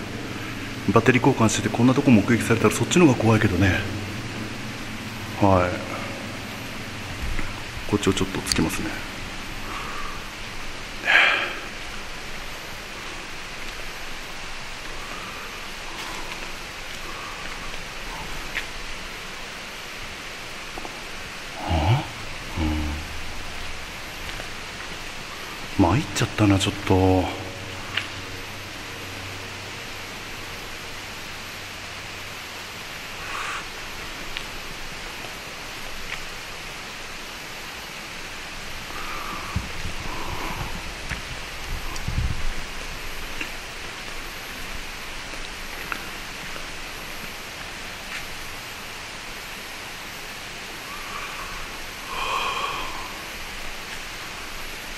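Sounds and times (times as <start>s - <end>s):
tunnel ambient hiss: 0.0s - 54.9s.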